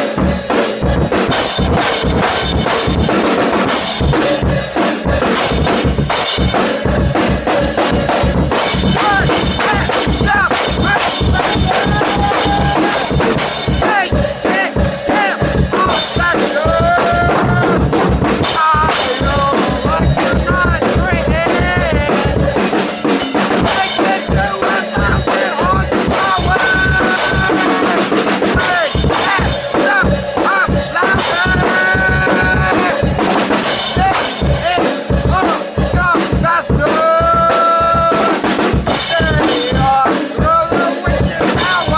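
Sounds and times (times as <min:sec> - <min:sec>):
drum kit: 0:00.0 - 0:41.9
loud music with heavy bass: 0:00.0 - 0:41.9
person singing: 0:07.2 - 0:41.9.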